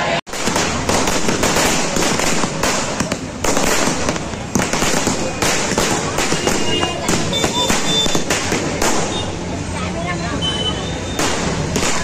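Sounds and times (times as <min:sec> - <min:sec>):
firecrackers cracking: 0:00.3 - 0:09.6, 0:11.1 - 0:12.0.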